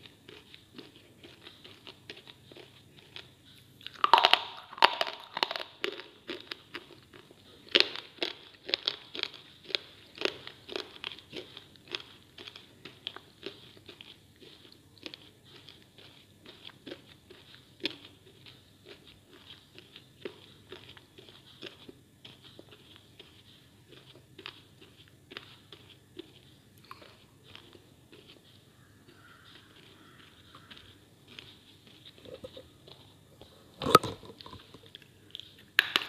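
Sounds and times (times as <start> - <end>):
crunchy biting and chewing: 0.0 - 36.0.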